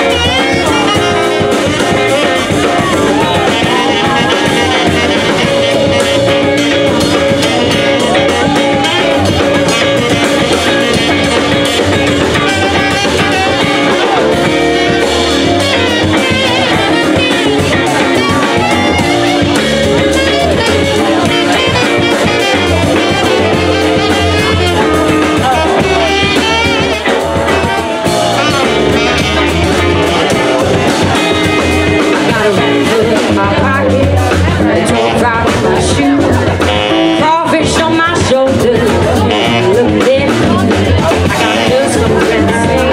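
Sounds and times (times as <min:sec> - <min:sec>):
jazz band playing: 0:00.0 - 0:42.9
saxophone solo: 0:00.0 - 0:42.9.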